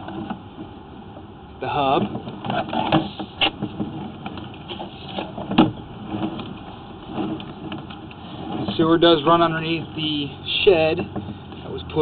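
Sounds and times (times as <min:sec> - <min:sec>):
steady rumbling noise: 0:00.0 - 0:12.0.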